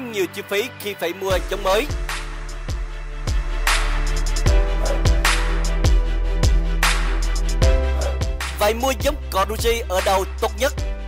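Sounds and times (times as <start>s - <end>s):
held bass and chord notes: 1.3s - 11.0s.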